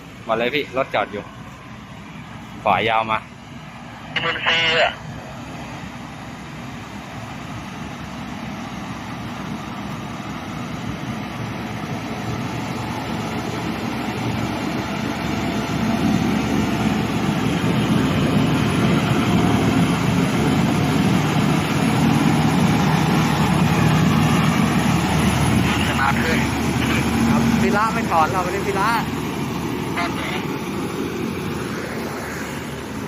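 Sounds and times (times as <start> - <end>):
road noise: 0.0 - 33.0
truck diesel engine under load: 0.0 - 33.0.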